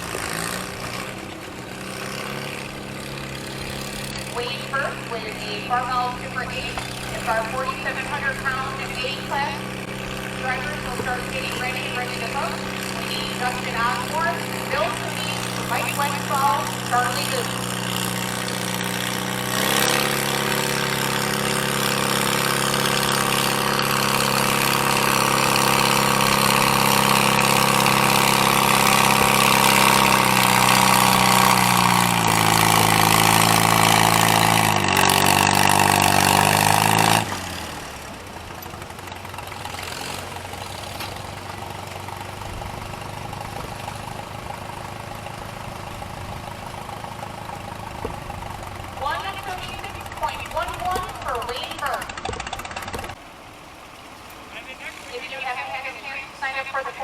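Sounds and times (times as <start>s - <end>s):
engine idling: 0.0s - 57.0s
tractor engine at full throttle: 0.0s - 57.0s.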